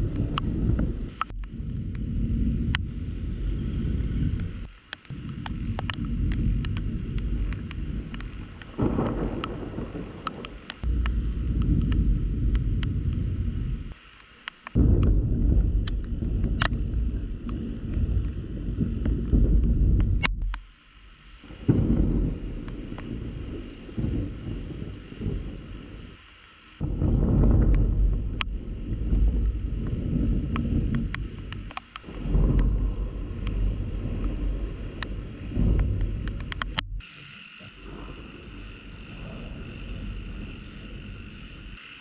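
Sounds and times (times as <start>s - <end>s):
thunder rumbling: 0.0s - 14.0s, 14.7s - 42.0s
raindrops ticking on camera housing: 0.0s - 37.1s.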